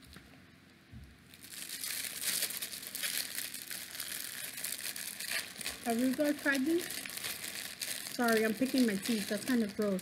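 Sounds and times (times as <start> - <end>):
plastic pouch crinkling: 1.3 - 10.0.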